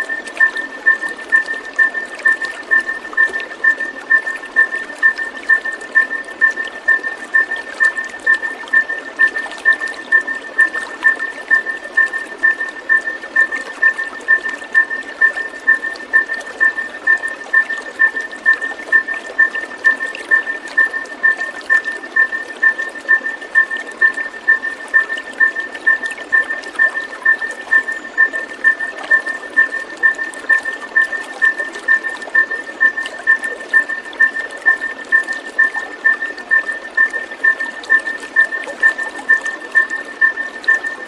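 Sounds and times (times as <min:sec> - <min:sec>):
rushing trickling water: 0:00.0 - 0:41.0.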